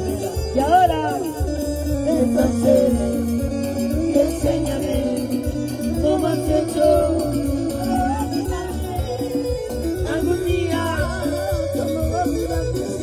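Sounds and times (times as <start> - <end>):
cumbia band playing: 0.0 - 13.0.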